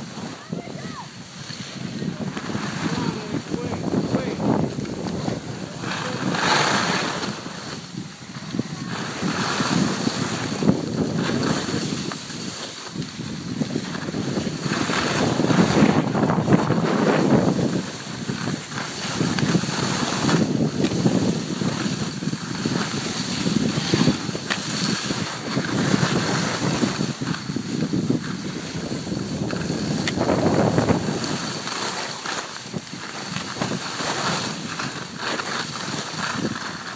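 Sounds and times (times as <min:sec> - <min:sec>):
skis scraping on snow: 0:00.0 - 0:36.9
wind rushing over microphone: 0:00.0 - 0:36.9.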